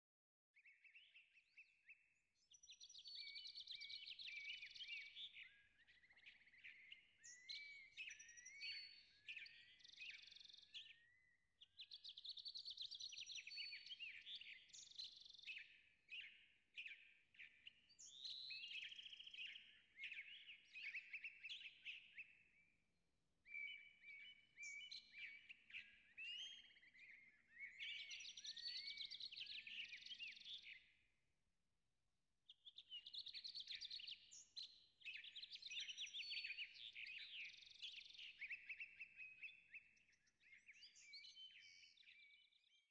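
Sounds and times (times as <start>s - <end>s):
faint songbird singing: 0.5s - 31.5s, 32.4s - 42.9s.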